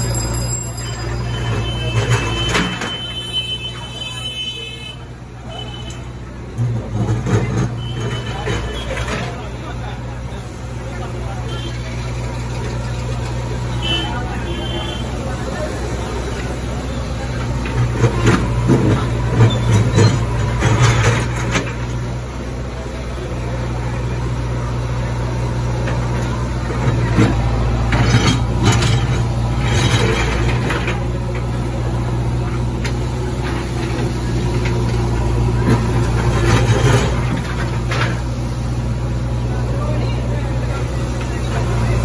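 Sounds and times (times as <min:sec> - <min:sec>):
diesel engine running: 0:00.0 - 0:04.2, 0:05.0 - 0:42.0.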